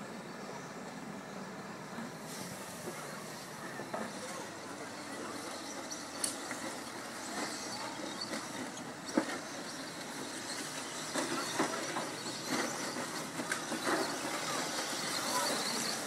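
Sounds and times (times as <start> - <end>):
rc trucks motors and tyres hiss: 0.0 - 16.0.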